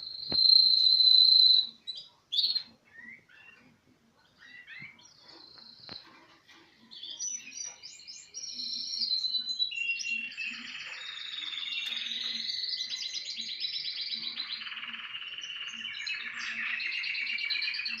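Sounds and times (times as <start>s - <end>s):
canaries singing trills: 0.0s - 18.0s.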